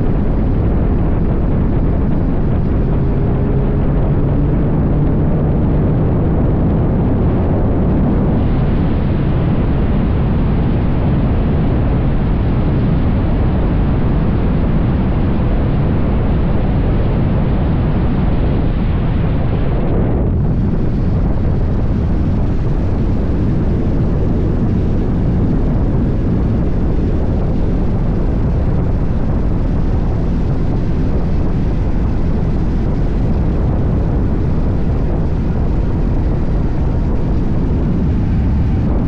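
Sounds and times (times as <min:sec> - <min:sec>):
motorcycle running noise: 0:00.0 - 0:39.0
wind roar: 0:00.0 - 0:39.0.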